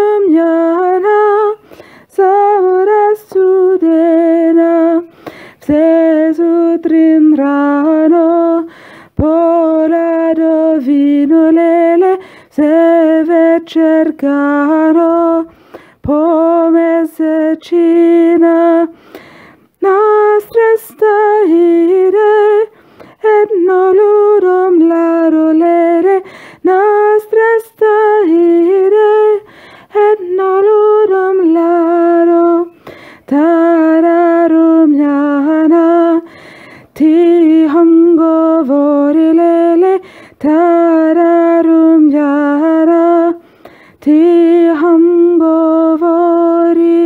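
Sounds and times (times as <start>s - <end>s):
woman singing a cappella: 0.0s - 47.0s.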